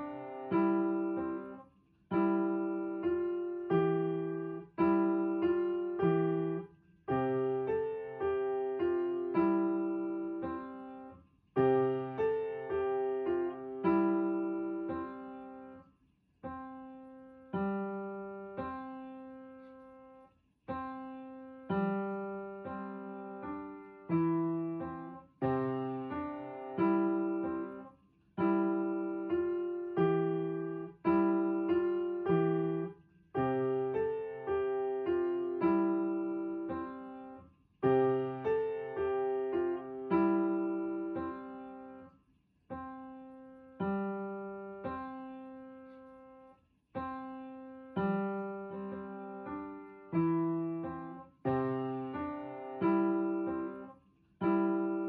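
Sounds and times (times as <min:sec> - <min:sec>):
solo piano piece: 0:00.0 - 0:55.0.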